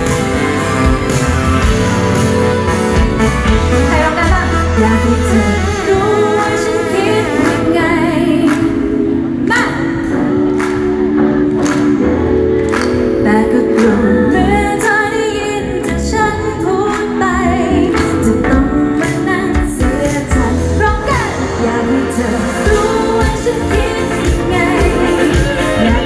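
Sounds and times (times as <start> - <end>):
pop band playing: 0.0 - 26.0
woman singing lead: 3.4 - 12.1, 12.9 - 26.0.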